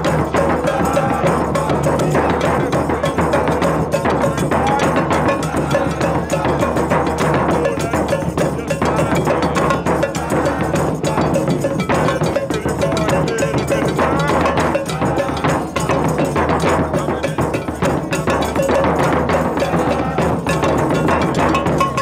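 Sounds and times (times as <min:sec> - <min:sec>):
street parade percussion music: 0:00.0 - 0:22.0.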